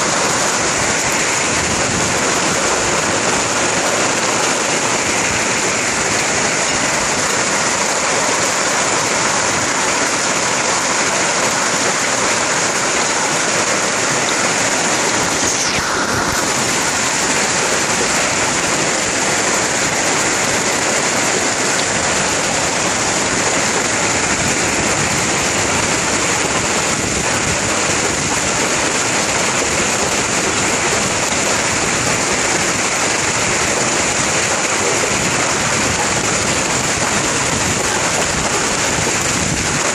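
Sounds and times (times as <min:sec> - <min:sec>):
hail and heavy rain on pavement: 0:00.0 - 0:39.9.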